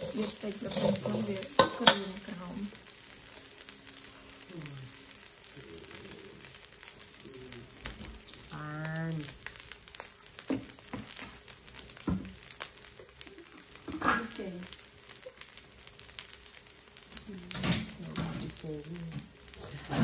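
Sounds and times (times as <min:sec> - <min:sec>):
rice crackling in a wok: 0:00.0 - 0:20.0.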